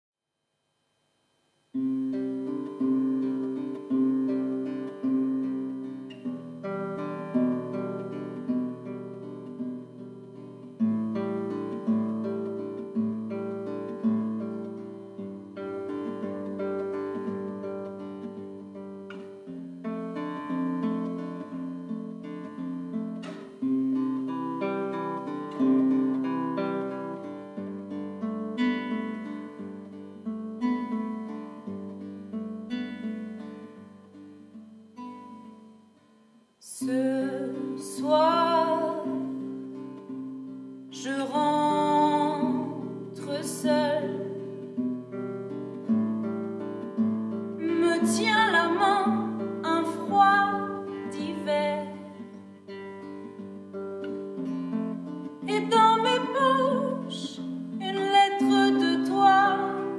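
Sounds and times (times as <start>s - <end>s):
classical guitar playing: 1.7s - 59.9s.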